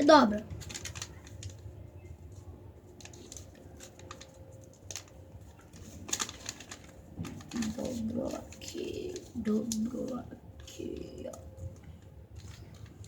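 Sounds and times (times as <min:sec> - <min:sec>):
paper being folded: 0:00.0 - 0:13.0.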